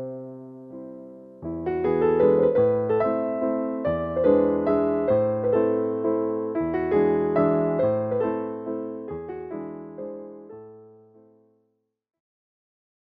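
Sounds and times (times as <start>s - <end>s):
piano-like keyboard music: 0.0s - 11.5s.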